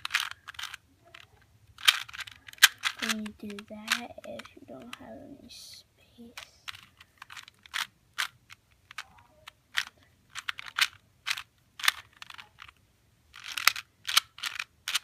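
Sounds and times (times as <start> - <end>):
puzzle cube clicking: 0.0 - 5.4, 6.4 - 15.0.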